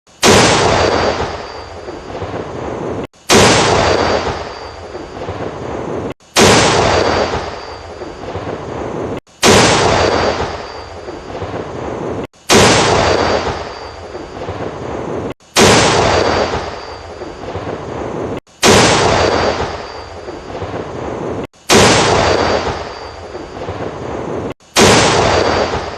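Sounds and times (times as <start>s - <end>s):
tank cannon firing: 0.2s - 5.5s, 6.3s - 14.6s, 15.5s - 25.9s.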